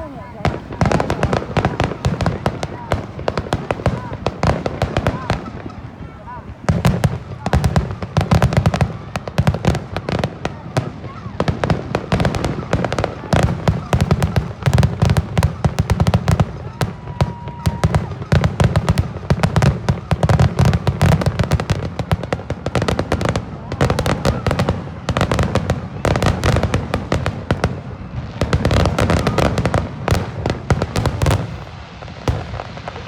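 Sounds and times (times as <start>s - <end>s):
fireworks bangs and crackling: 0.0s - 33.0s.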